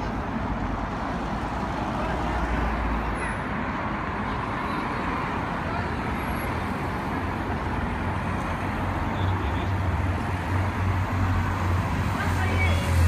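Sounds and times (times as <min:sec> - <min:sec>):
vans driving past: 0:00.0 - 0:13.0.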